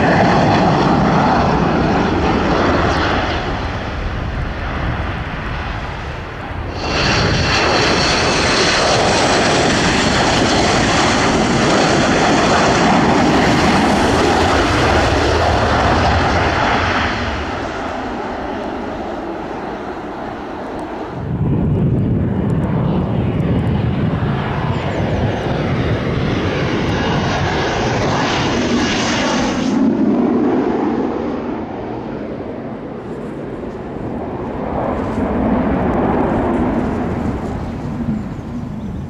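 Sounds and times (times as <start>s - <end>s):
jet whine and rumble passing overhead: 0.0s - 39.0s.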